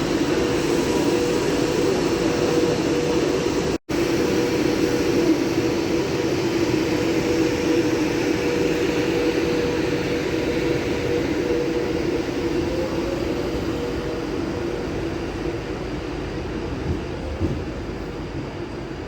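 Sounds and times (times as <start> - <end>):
train mechanical drone: 0.0 - 19.0.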